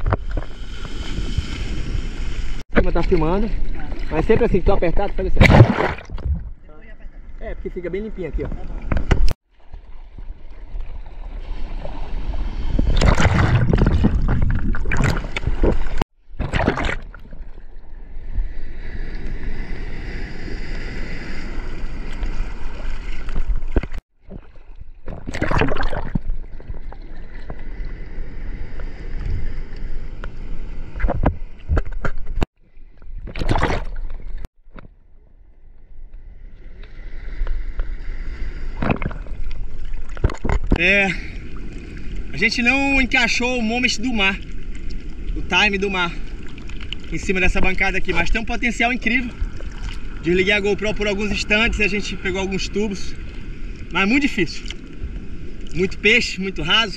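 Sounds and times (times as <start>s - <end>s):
sea water sloshing and splashing: 0.0s - 6.6s, 8.4s - 34.9s, 36.6s - 42.4s, 43.0s - 55.8s.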